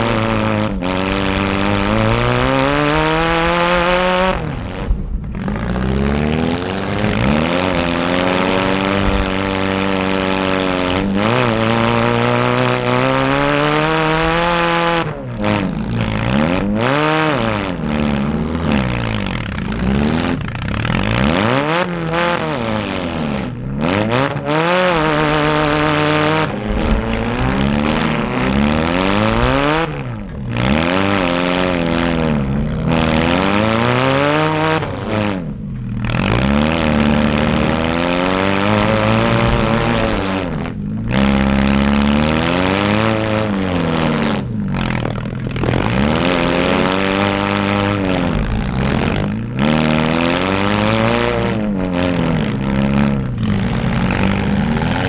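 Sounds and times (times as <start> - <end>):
car engines revving hard: 0.0 - 55.0.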